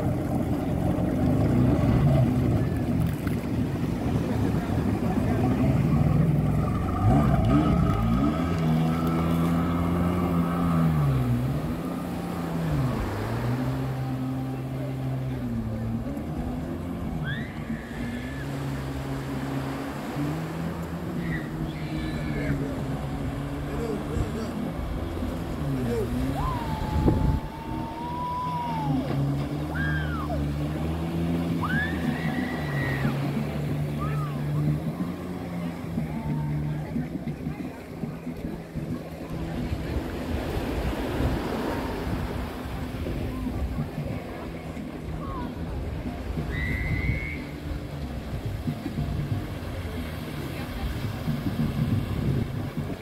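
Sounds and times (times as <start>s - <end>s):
jet ski engine revving: 0.0s - 53.0s.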